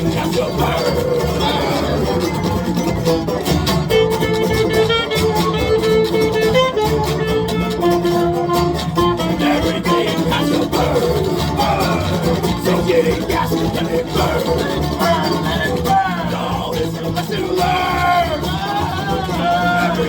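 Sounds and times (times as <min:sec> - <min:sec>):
folk string band playing: 0:00.0 - 0:20.0.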